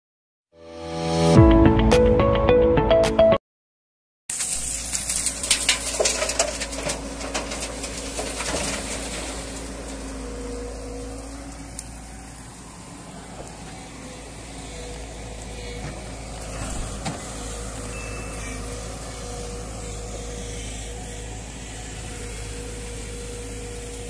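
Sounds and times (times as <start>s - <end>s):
excavator diesel engine running: 4.3s - 24.0s.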